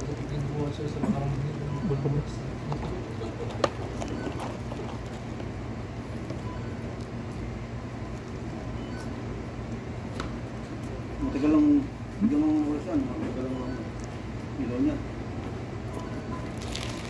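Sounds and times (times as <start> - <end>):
restaurant background hum and hiss: 0.0 - 17.0.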